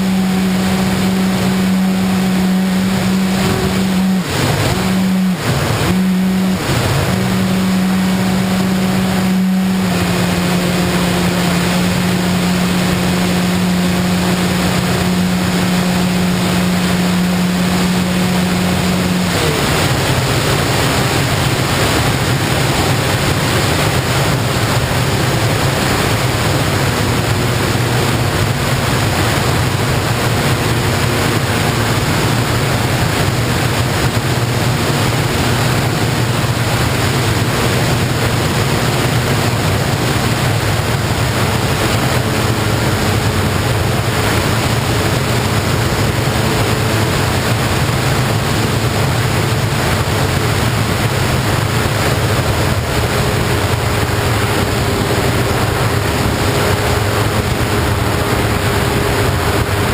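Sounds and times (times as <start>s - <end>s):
model aircraft motor humming: 0.0s - 59.9s
rushing wind: 0.0s - 59.9s.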